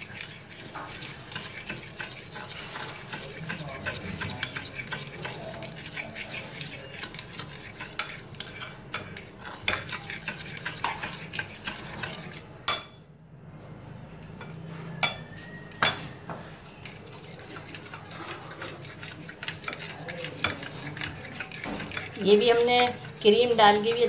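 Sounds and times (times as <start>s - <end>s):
spoon clinking and scraping glass bowl: 0.0s - 13.0s, 16.6s - 24.0s.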